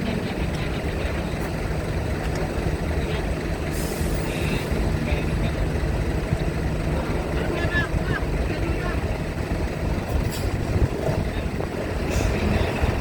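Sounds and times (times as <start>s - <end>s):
heavy vehicle engines rumbling: 0.0s - 13.0s.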